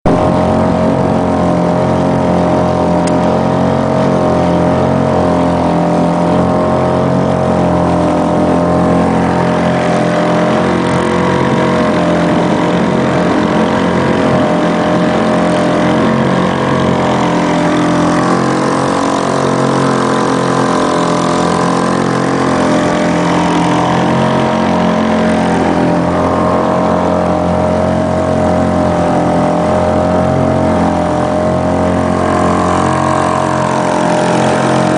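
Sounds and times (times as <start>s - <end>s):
boat motor droning: 0.0s - 34.9s.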